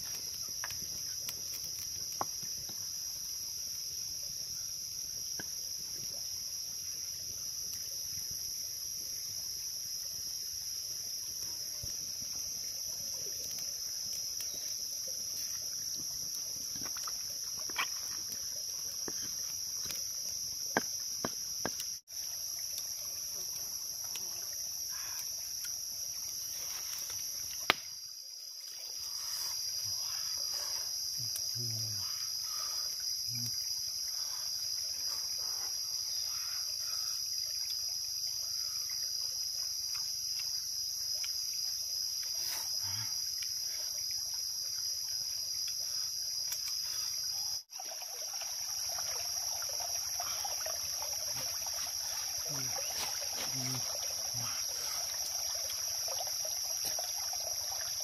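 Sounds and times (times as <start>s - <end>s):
insect chorus droning: 0.0s - 58.0s.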